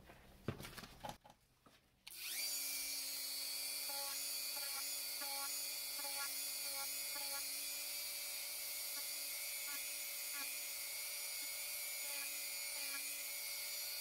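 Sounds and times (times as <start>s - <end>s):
rotary tool whining: 2.1s - 14.0s.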